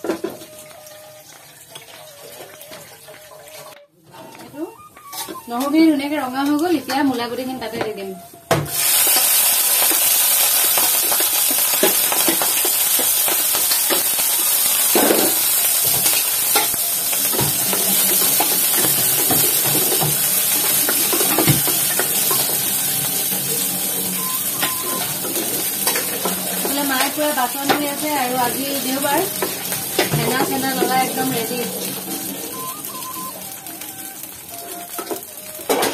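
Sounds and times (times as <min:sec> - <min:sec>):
food sizzling in hot oil: 0:00.0 - 0:03.8, 0:08.6 - 0:35.9.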